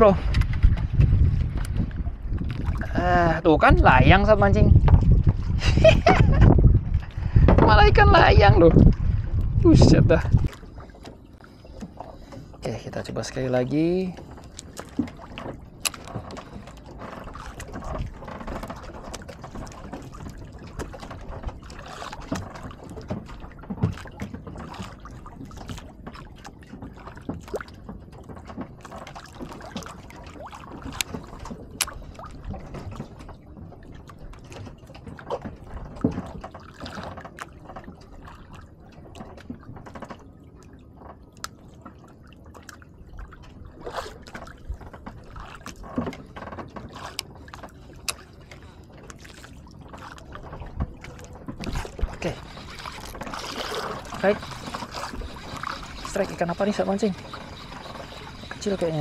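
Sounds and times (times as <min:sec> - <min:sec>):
water lapping against boat hull: 0:00.0 - 0:59.0.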